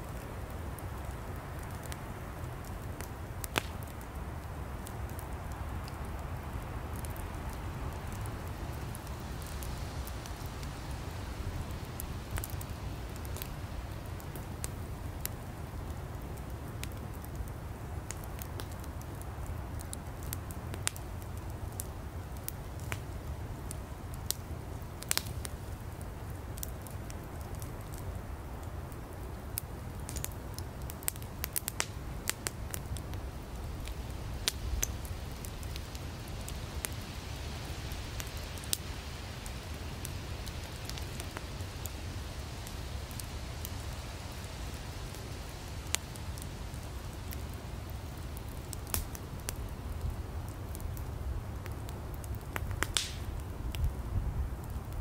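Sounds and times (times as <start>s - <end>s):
fire hissing: 0.0s - 28.0s, 28.7s - 55.0s
campfire crackling and popping: 0.0s - 55.0s.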